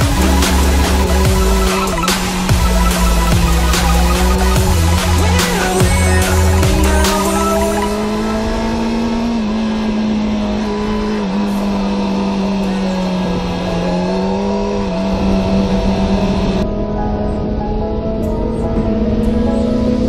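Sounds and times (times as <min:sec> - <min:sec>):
motorcycle engine running hard: 0:00.0 - 0:16.6.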